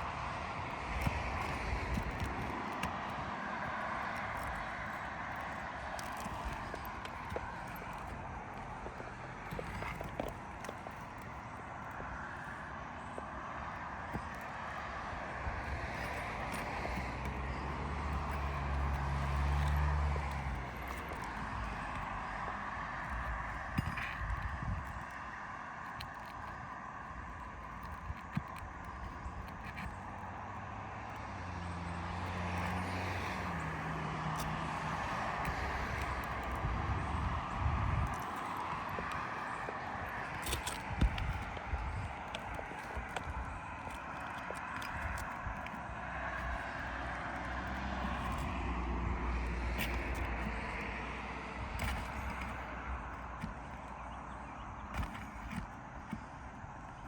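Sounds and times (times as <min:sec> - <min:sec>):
outdoor background noise: 0:00.0 - 0:57.0
vehicle engine humming: 0:00.0 - 0:57.0.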